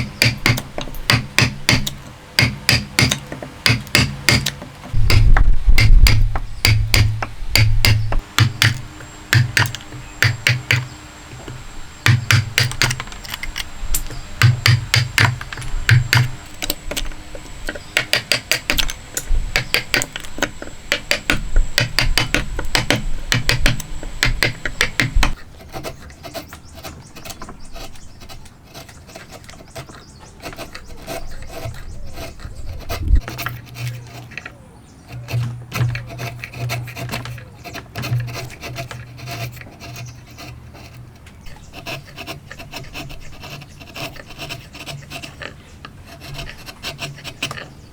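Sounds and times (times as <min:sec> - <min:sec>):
hand tools scraping wood: 0:00.0 - 0:47.9.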